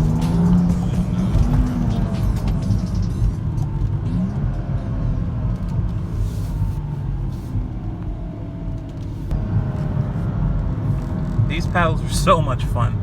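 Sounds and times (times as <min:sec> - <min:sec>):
car engine rumble from cabin: 0:00.0 - 0:13.0.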